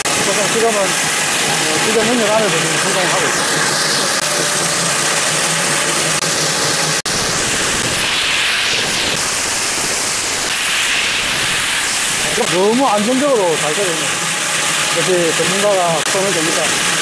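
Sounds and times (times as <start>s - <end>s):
core drill cutting concrete: 0.0s - 17.0s.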